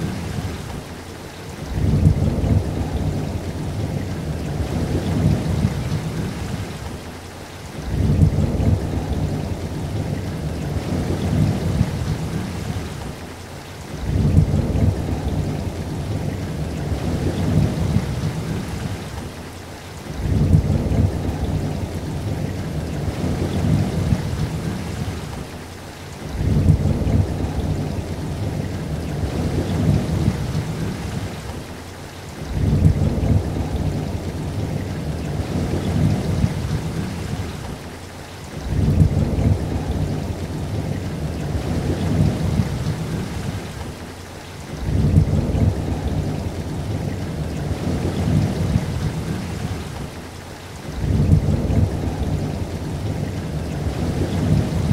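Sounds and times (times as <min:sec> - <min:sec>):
low rumbling thunder: 0:00.0 - 0:19.4, 0:20.0 - 0:25.6, 0:26.2 - 0:37.9, 0:38.5 - 0:54.9
rain: 0:00.0 - 0:54.9.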